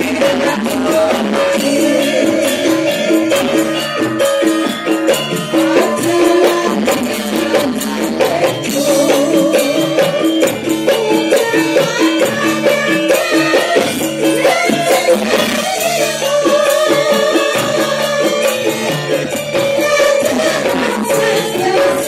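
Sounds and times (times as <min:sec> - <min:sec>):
metallophones ringing: 0:00.0 - 0:22.0
women singing through a pa: 0:00.0 - 0:22.0.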